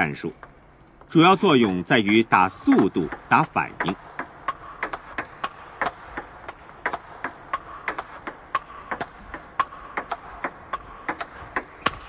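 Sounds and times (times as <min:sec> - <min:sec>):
table tennis ball clicks: 0:00.4 - 0:12.0.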